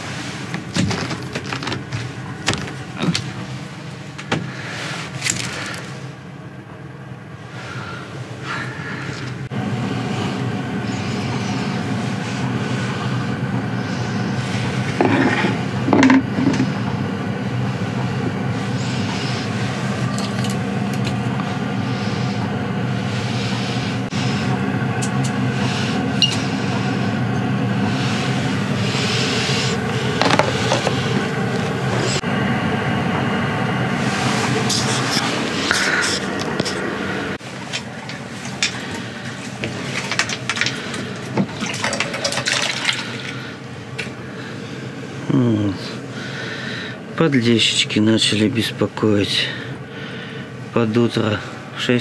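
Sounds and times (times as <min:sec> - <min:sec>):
air heater humming: 0:00.0 - 0:52.0.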